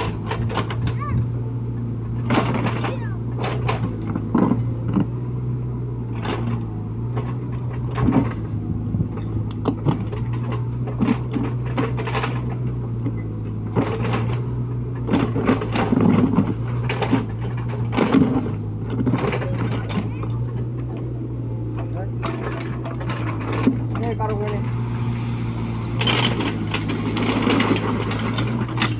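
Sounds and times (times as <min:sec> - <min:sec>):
knocks and scrapes of machine: 0:00.0 - 0:01.3, 0:02.2 - 0:05.2, 0:06.1 - 0:28.9
excavator engine running: 0:00.0 - 0:28.9.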